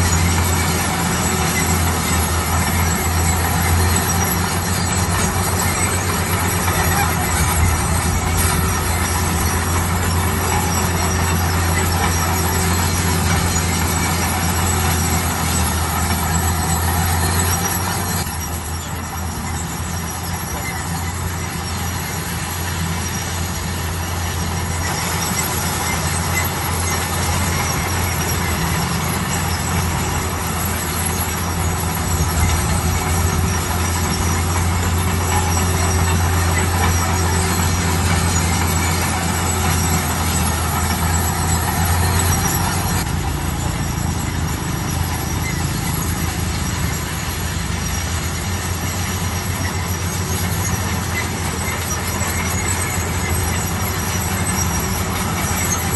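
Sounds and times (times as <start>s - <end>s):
bulldozer diesel engine running: 0.0s - 55.9s
steel tracks squealing: 0.0s - 55.9s.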